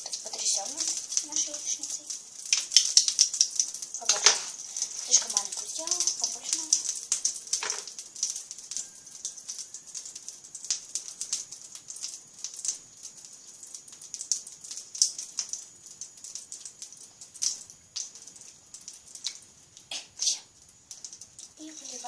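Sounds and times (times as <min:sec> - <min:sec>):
butter crackling in frying pan: 0:00.0 - 0:22.0.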